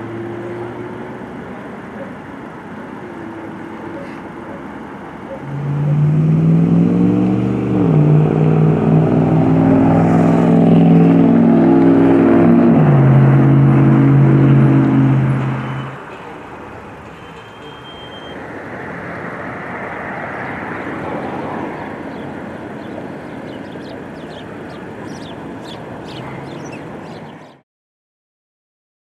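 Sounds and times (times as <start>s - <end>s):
quiet steady engine hum: 0.0s - 11.7s, 12.5s - 27.6s
loud vehicle engine: 0.0s - 27.6s.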